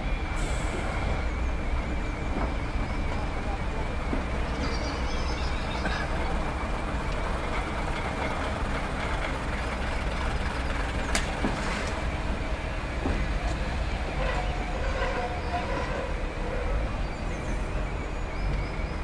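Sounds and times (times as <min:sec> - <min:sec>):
diesel railcar engine rumble: 0:00.0 - 0:19.0.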